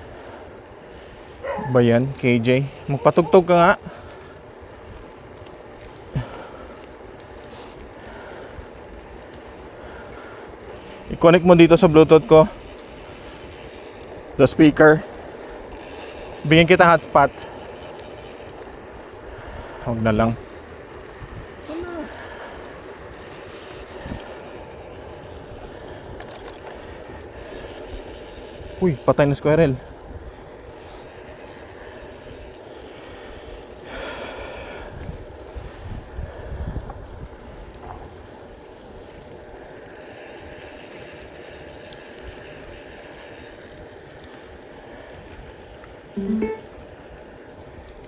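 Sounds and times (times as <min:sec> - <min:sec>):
bicycle tyre and wind noise: 0:00.0 - 0:48.0.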